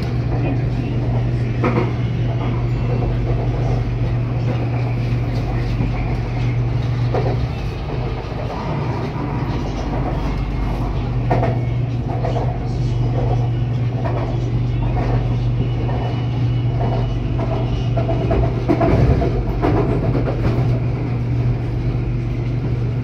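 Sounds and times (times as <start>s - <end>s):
metro train running hum: 0.0s - 23.0s.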